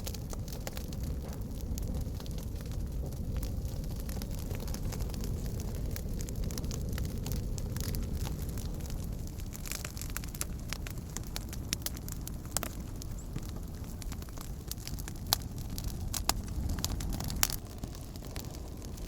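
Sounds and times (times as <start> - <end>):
campfire crackling and popping: 0.0 - 19.0
low steady rumble: 0.0 - 19.0.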